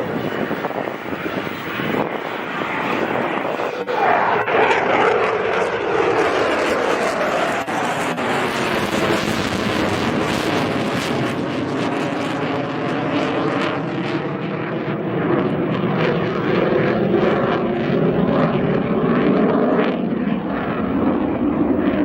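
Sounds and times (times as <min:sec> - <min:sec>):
jet engine rushing roar: 0:00.0 - 0:22.0.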